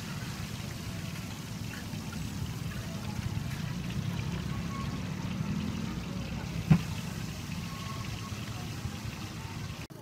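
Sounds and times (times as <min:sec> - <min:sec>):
oil bubbling while deep-frying: 0:00.0 - 0:10.0.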